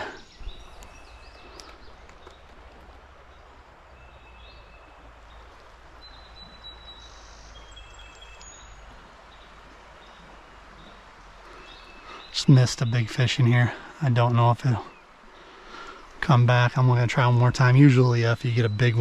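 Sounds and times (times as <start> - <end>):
stream water rushing: 0.0 - 17.9.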